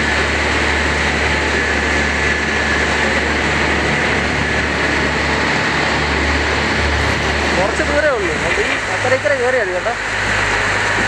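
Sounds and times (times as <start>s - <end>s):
ferry engine running: 0.0s - 11.0s
propeller churning water: 0.0s - 11.0s.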